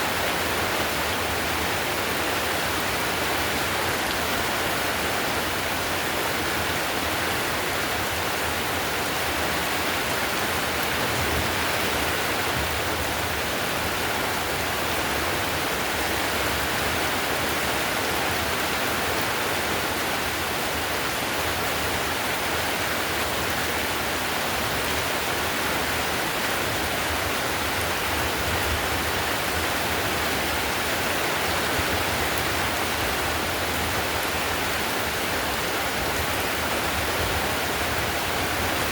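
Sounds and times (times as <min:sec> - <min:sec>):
heavy rain on a tiled roof: 0:00.0 - 0:38.9.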